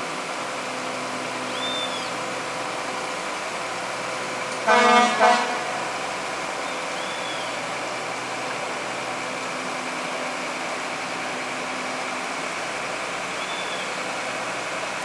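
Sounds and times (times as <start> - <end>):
diesel railcar engine hum: 0.0 - 15.0.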